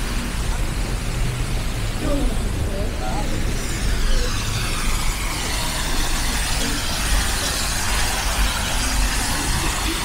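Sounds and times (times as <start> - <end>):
low rumble of traffic: 0.0 - 10.0
even hiss: 1.5 - 10.0.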